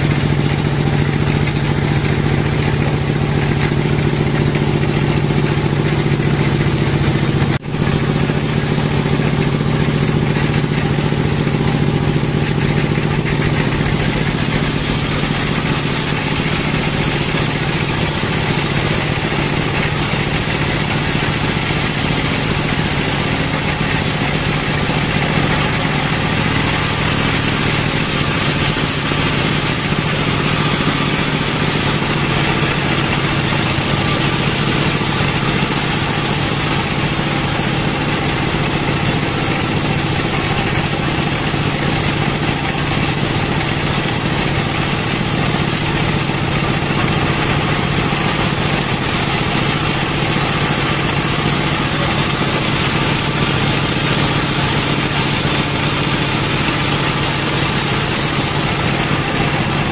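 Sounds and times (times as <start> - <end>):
sawmill engine drone: 0.0 - 59.9
band saw blade hissing through log: 7.2 - 59.9.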